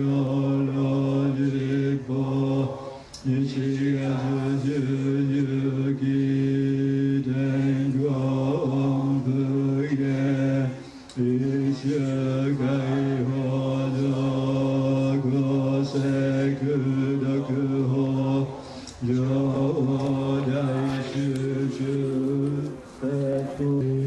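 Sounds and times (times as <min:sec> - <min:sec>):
low chant on one pitch: 0:00.0 - 0:24.0.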